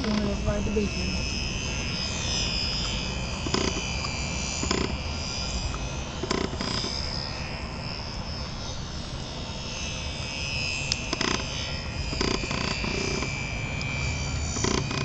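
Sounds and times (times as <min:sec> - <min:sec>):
rc plane motor whining: 0:00.0 - 0:15.0
wind rumble on microphone: 0:00.0 - 0:15.0.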